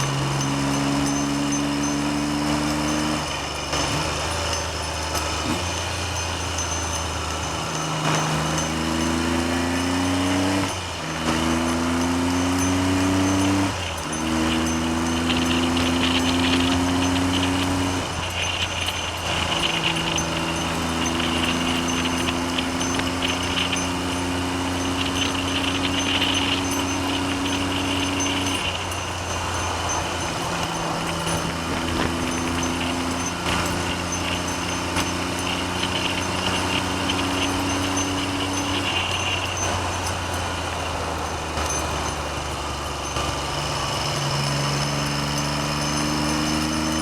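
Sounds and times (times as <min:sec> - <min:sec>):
motorcycle engine shifting gears: 0:00.0 - 0:47.0
wind noise on microphone: 0:00.0 - 0:47.0.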